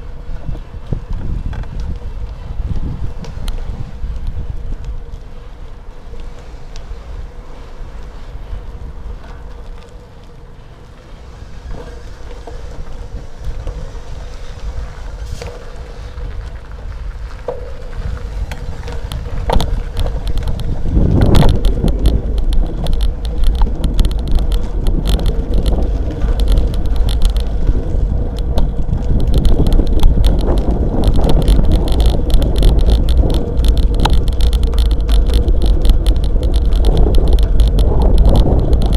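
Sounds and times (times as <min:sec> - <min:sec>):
bike rattling: 0:00.0 - 0:38.9
rumbling road noise: 0:00.0 - 0:38.9
wind on the microphone: 0:00.0 - 0:38.9.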